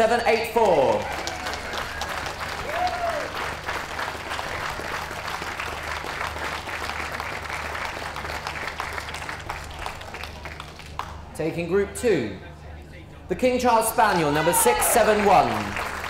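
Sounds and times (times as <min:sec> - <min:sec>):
audience applauding: 0:00.0 - 0:11.3, 0:14.1 - 0:16.0.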